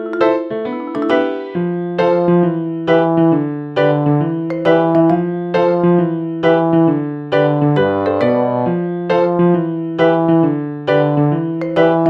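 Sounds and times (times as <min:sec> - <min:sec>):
gentle piano tune: 0:00.0 - 0:12.0.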